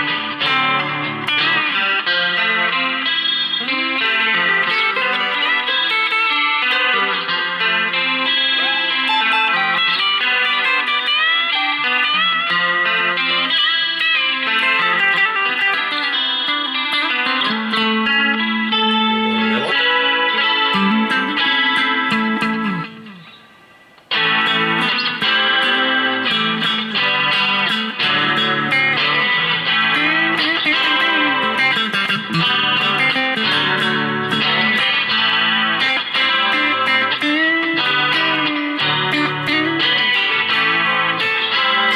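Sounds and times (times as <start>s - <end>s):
electric guitar through amp: 0.0s - 41.9s.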